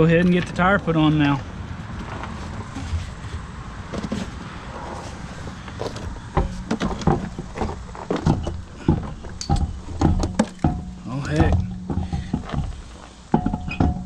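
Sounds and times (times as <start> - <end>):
steady low hum: 0.0 - 14.0
truck wheel knocks and clunks: 1.9 - 14.0.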